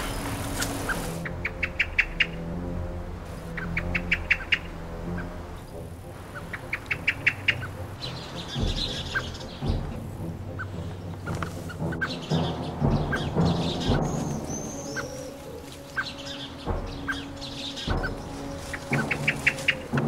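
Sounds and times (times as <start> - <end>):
blackbird alarm calls: 0.0 - 2.5, 3.4 - 20.0.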